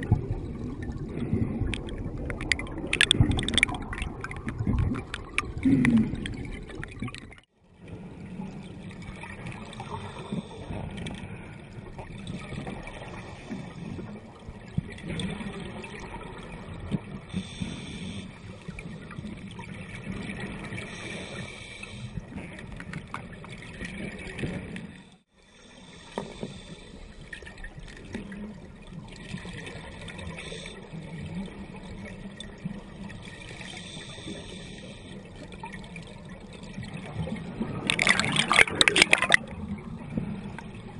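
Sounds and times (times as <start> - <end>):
underwater exhaled bubbles: 0.0 - 40.9.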